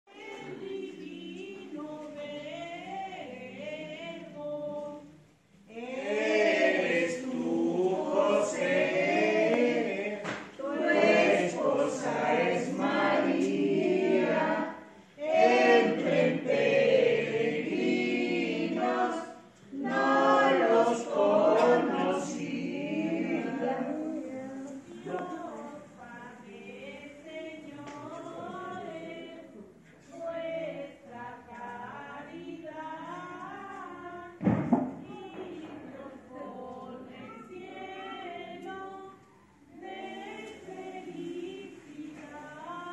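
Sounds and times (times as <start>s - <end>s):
choir singing: 0.1s - 33.5s, 35.3s - 42.9s.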